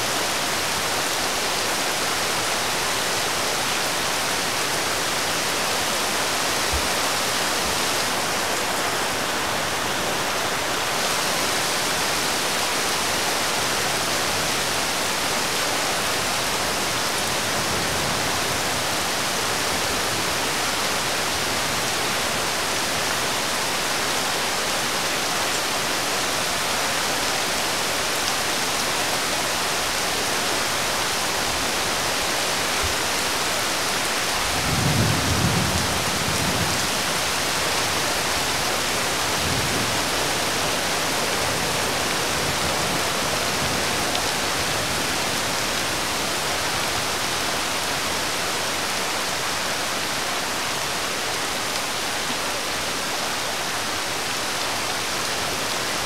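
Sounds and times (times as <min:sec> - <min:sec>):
rain hissing on road and roofs: 0:00.0 - 0:56.0.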